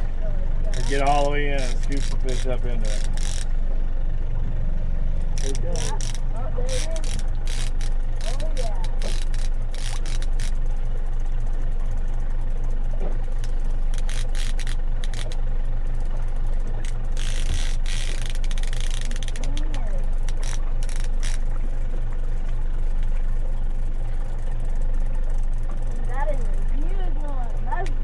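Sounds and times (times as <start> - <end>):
gear clicking and knocking: 0.0 - 3.7, 5.1 - 28.0
boat motor droning: 0.0 - 28.0.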